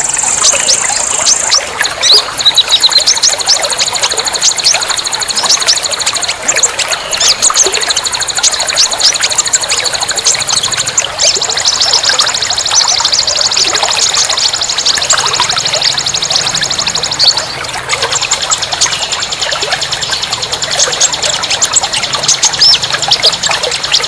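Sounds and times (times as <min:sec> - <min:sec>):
fast high-pitched trill: 0:00.0 - 0:24.0
songbirds chirping: 0:00.0 - 0:24.0.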